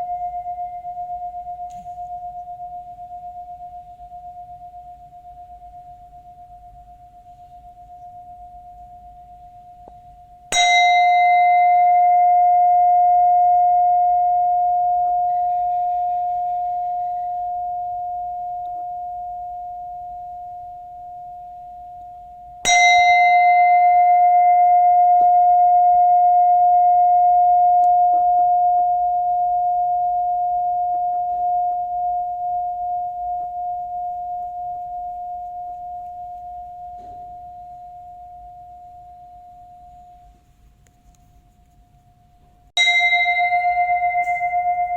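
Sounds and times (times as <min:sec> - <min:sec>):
bowl bell ringing: 0:00.0 - 0:40.4, 0:42.8 - 0:44.9.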